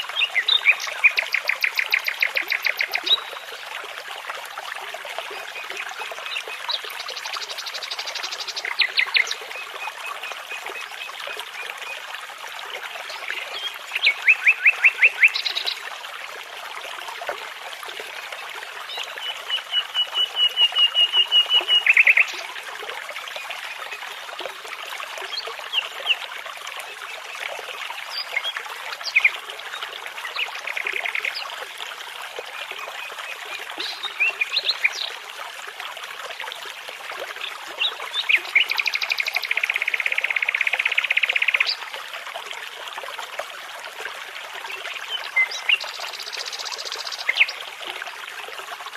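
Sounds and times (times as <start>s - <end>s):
babbling brook: 0.0s - 48.9s.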